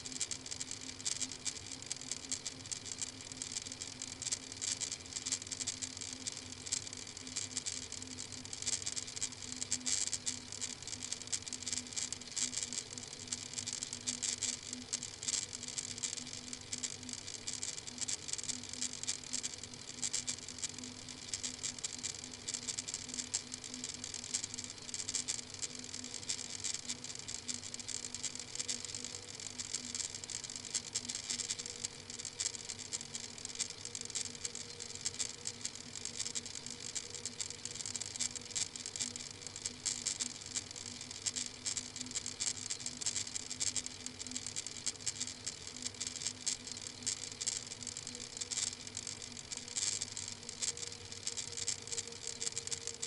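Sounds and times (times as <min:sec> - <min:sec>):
crackling hiss: 0:00.0 - 0:53.0
low electrical hum: 0:00.0 - 0:53.0.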